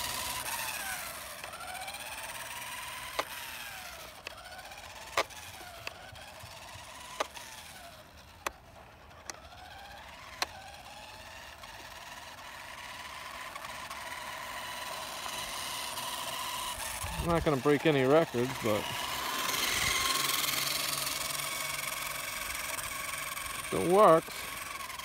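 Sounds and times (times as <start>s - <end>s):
toy truck electric motor whining: 0.0s - 25.0s.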